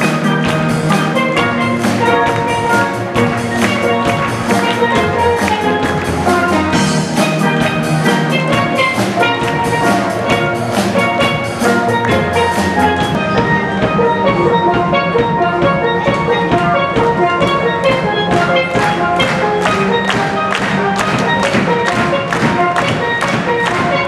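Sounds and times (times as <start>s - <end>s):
drum kit beat: 0.0s - 24.0s
steel pans playing: 0.0s - 24.0s.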